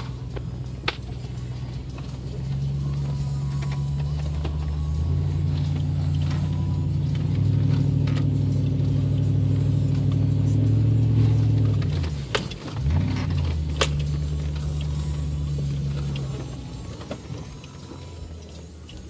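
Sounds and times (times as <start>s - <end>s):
truck engine from inside cab: 0.0s - 19.0s.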